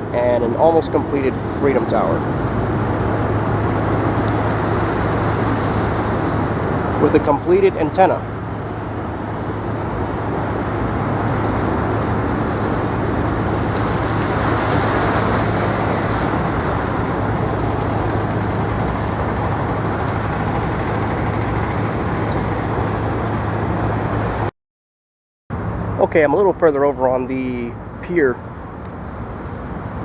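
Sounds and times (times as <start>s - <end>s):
low hum: 0.0s - 24.5s
road vehicles rushing: 0.0s - 24.5s, 25.5s - 30.0s.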